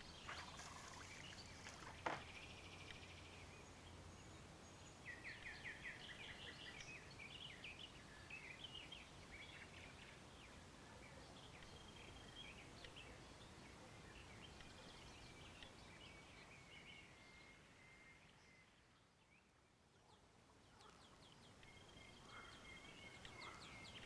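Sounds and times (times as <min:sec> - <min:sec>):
birds chirping and trilling: 0:00.0 - 0:24.0
low steady hiss: 0:00.0 - 0:24.0.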